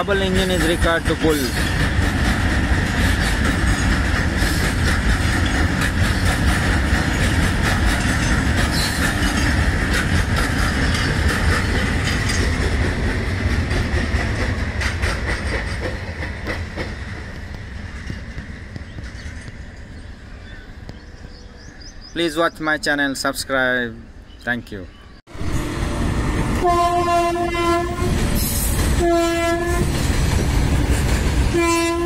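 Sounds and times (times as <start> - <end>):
clickety-clack over rail joints: 0.0 - 20.2, 26.4 - 32.0
freight train wheels rumbling: 0.0 - 23.2, 25.2 - 32.0.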